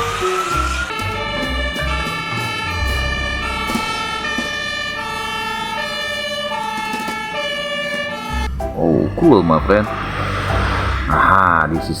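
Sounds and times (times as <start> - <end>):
toy electronic siren: 0.0 - 11.6.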